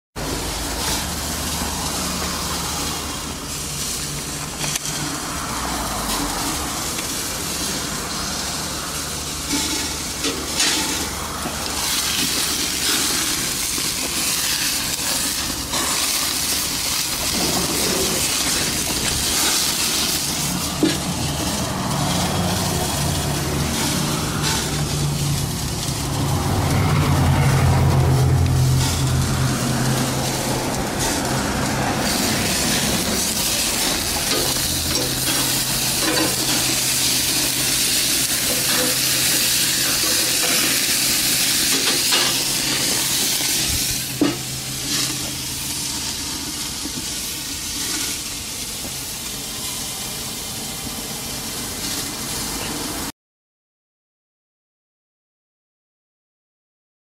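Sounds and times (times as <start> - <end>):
meat sizzling on grill: 0.2 - 53.1.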